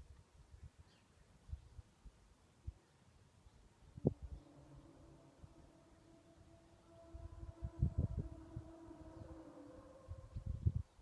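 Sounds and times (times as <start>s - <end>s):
faint steady two-tone hum: 0.0s - 11.0s.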